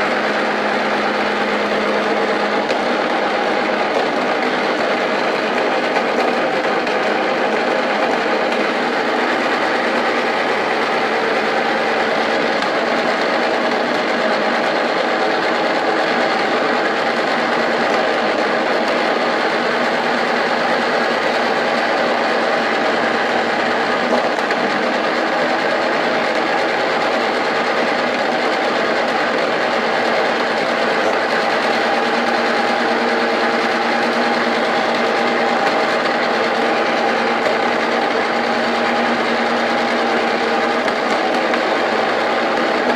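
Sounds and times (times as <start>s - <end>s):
machine whirring hum: 0.0s - 42.9s.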